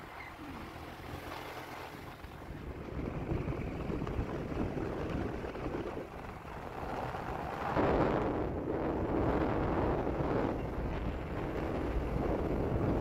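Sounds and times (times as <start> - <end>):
vehicle running noise: 0.0 - 13.0
wind rumbling on microphone: 0.0 - 13.0.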